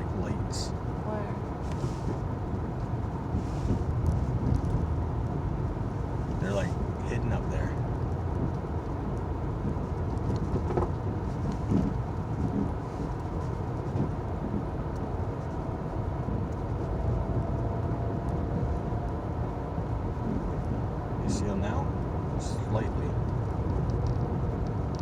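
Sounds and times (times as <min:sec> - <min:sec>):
car engine rumble inside cabin: 0:00.0 - 0:25.0
tyres on snowy road: 0:00.0 - 0:25.0.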